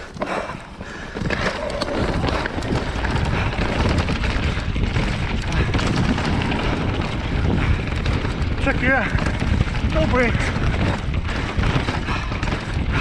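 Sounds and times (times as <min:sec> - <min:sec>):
bike rattling: 0:00.0 - 0:13.0
tyres rumbling over stones: 0:00.0 - 0:13.0
wind noise on microphone: 0:00.0 - 0:13.0.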